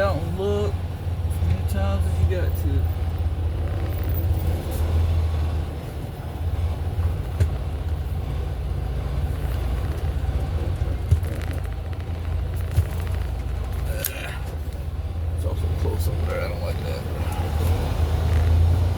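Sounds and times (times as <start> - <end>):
diesel truck engine running: 0.0 - 18.9.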